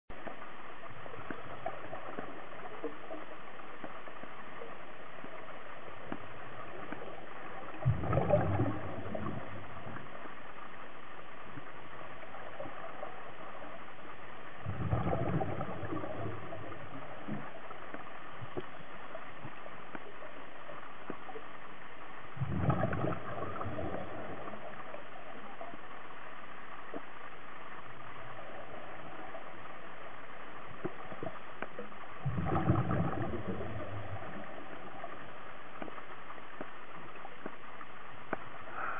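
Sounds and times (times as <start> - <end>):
water gurgling and sloshing: 0.1 - 38.9
water noise: 0.1 - 38.9.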